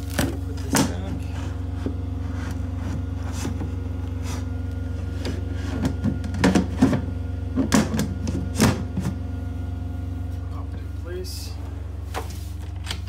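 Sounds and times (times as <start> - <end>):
boat machinery hum: 0.0 - 13.0.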